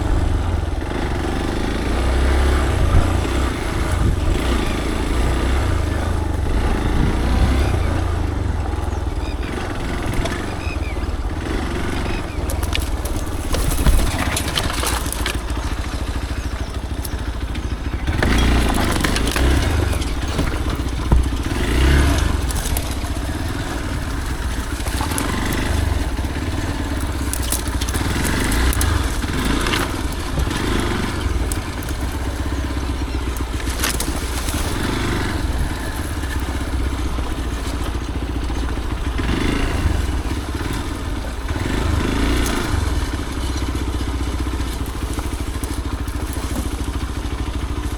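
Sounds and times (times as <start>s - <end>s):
motorcycle engine rumbling: 0.0s - 47.9s
tyres crunching over gravel: 0.0s - 47.9s.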